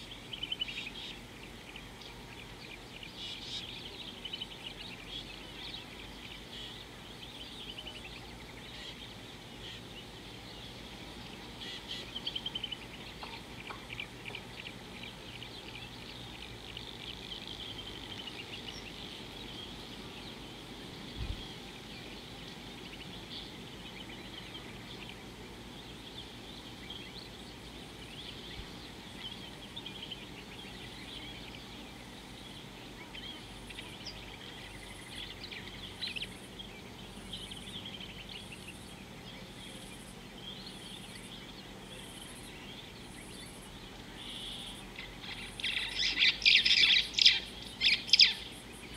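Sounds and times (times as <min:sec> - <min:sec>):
background hiss: 0:00.0 - 0:48.9
birds chirping: 0:00.0 - 0:48.9.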